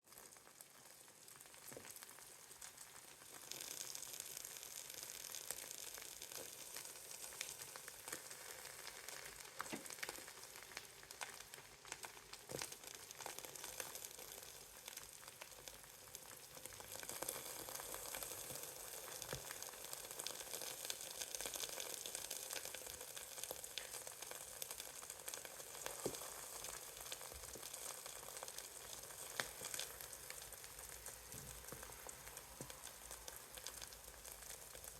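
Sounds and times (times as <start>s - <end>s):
eggs sizzling in a pan: 0.0s - 34.9s.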